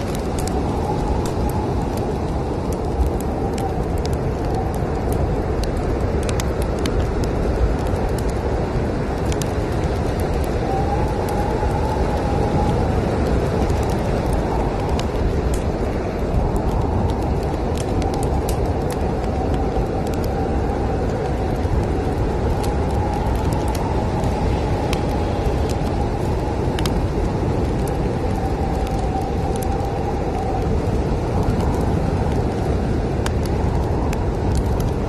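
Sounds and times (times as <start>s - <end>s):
firewood crackling and popping: 0.0s - 35.0s
wind blowing with whistle: 0.0s - 35.0s.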